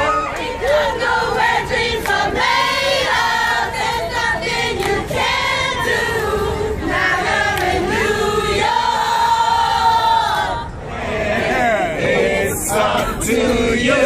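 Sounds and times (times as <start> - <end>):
crowd singing along: 0.0 - 14.0.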